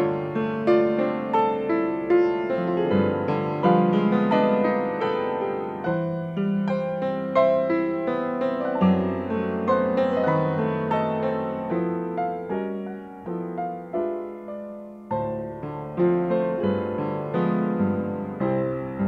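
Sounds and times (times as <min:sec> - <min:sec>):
slow piano ballad: 0:00.0 - 0:19.0.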